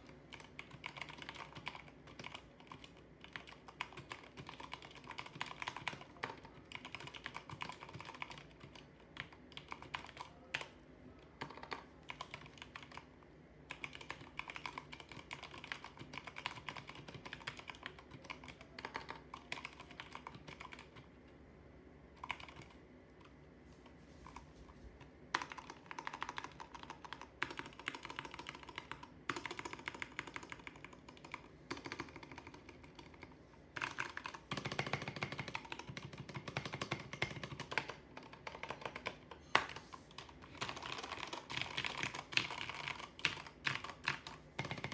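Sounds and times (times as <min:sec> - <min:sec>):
fast typing on mechanical keyboard: 0:00.0 - 0:10.8, 0:11.4 - 0:21.1, 0:22.2 - 0:22.8, 0:25.3 - 0:44.9.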